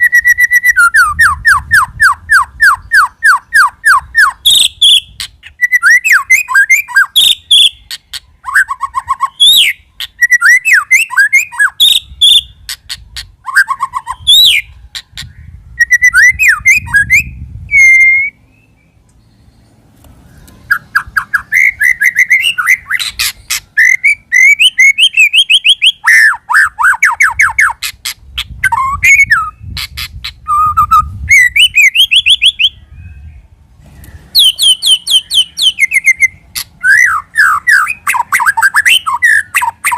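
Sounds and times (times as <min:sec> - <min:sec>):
bird song whistled phrases: 0:00.0 - 0:19.7, 0:20.3 - 0:39.9.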